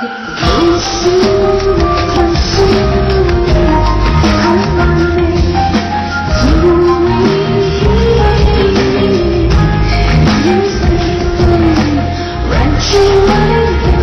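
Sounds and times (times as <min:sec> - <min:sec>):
heavy bass and drum groove: 0:00.4 - 0:14.0.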